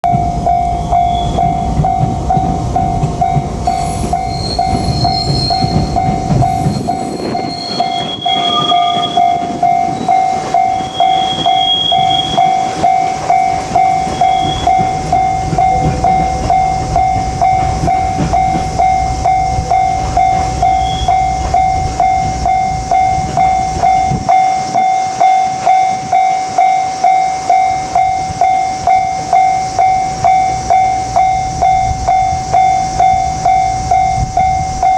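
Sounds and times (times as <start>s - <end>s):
freight train rumbling over rails: 0.0s - 34.9s
level-crossing alarm bell ringing: 0.0s - 34.9s.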